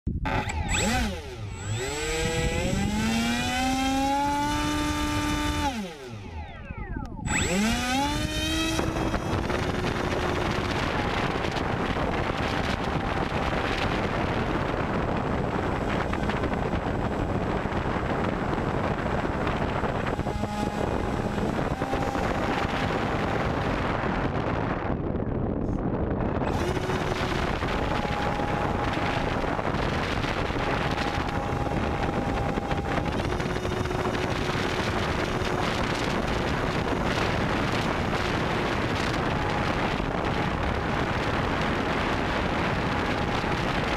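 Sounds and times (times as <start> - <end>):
wind rushing over microphone: 0.1 - 43.9
electric motor whining: 0.2 - 24.9, 26.4 - 43.9.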